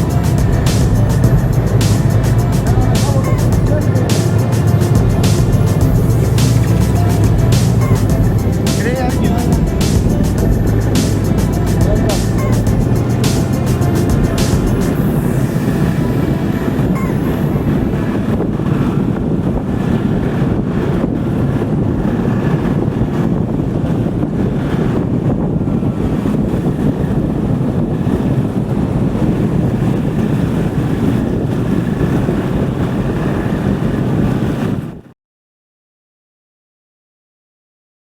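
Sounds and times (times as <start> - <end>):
wind buffeting microphone: 0.0 - 35.1.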